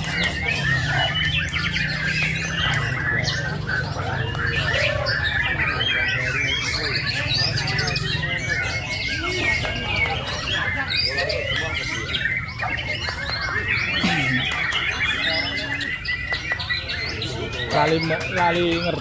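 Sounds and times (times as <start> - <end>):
songbird chirping and twittering: 0.0 - 19.0.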